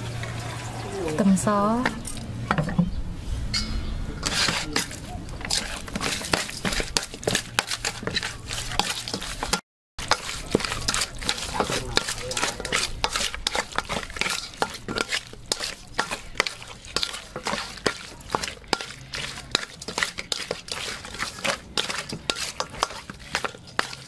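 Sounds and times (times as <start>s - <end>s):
metal spoon scraping pot: 3.5s - 24.0s
meat squelching: 4.3s - 24.0s.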